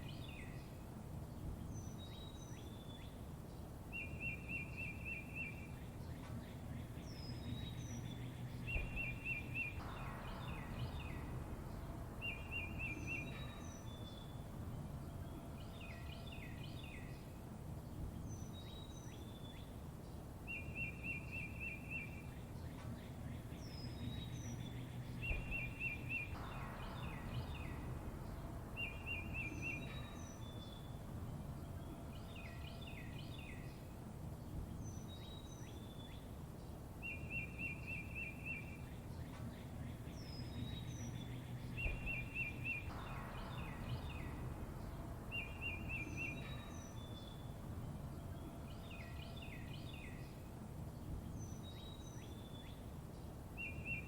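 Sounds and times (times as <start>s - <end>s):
low background rumble: 0.0s - 54.0s
songbirds chirping and trilling: 0.0s - 54.0s.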